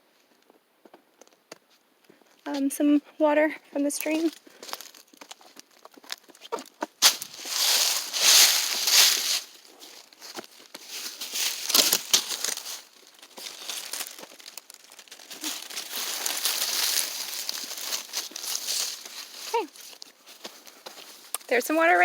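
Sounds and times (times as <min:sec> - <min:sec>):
footsteps crunching through dry leaves: 0:04.0 - 0:22.0.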